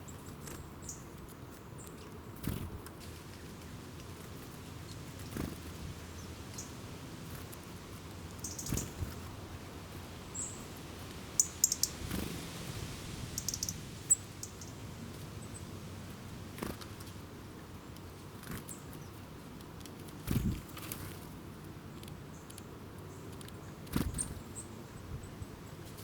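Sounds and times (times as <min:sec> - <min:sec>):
small birds chirping: 0:00.0 - 0:17.2, 0:17.9 - 0:26.0.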